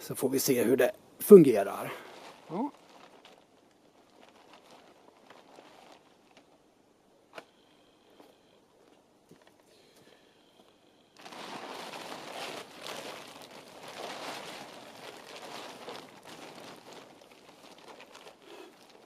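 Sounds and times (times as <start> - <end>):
plastic tarp crinkling: 0.0 - 10.2, 11.1 - 19.0.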